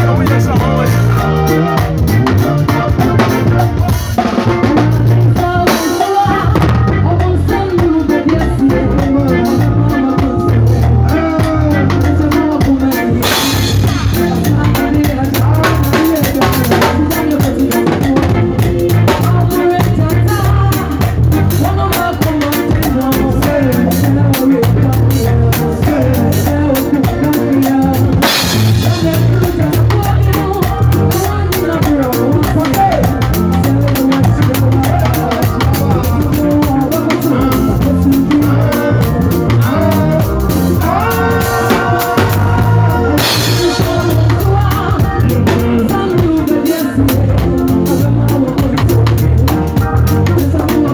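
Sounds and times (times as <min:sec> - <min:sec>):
drum kit playing busily: 0:00.0 - 0:50.9
live band jamming: 0:00.0 - 0:50.9.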